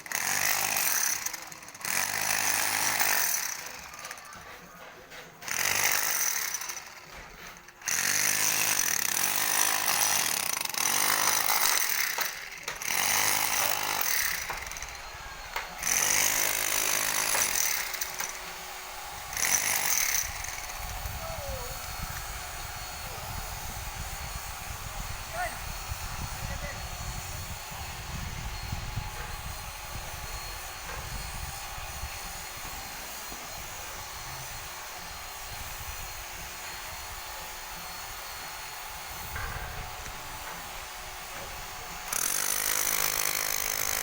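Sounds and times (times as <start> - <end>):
power tool running: 0.0 - 44.0.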